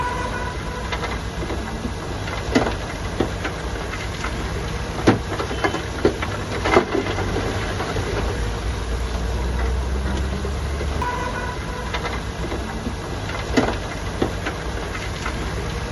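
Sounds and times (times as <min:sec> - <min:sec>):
diesel machinery engine drone: 0:00.0 - 0:15.9.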